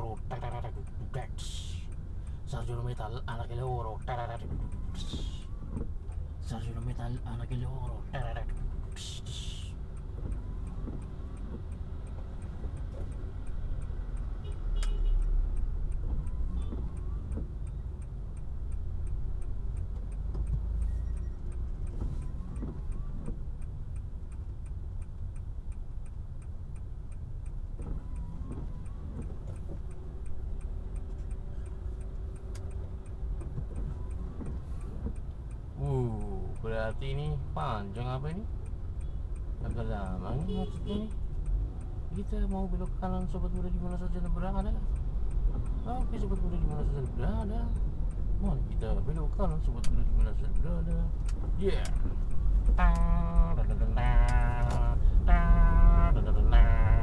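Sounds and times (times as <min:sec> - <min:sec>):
car engine rumble: 0:00.0 - 0:57.0
turn signal ticking: 0:00.0 - 0:57.0.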